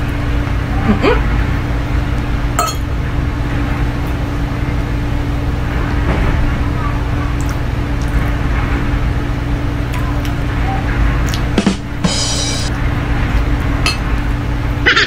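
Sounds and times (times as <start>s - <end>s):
electrical hum and hiss: 0.0s - 14.9s.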